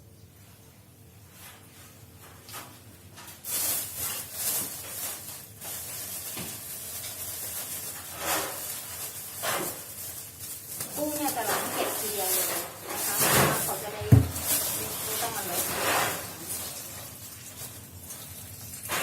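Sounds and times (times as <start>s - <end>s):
plastic bags rustling: 2.8s - 19.0s.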